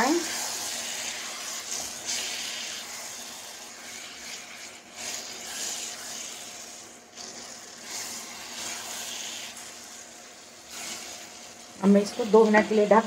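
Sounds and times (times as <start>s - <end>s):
spatula stirring: 0.0s - 13.0s
vegetables sizzling in wok: 0.0s - 13.0s.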